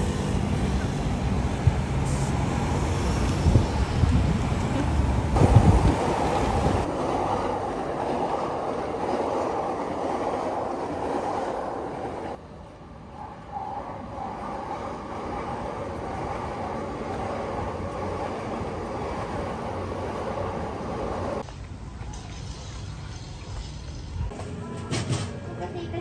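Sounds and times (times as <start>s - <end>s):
low street or wind rumble: 0.0s - 26.0s
train rumbling on rails: 0.0s - 26.0s.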